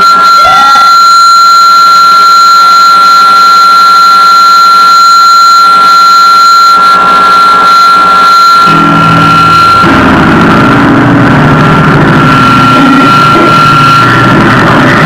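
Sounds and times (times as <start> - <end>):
dense electronic drone: 0.0 - 15.0
piercing high electronic tone: 0.0 - 15.0.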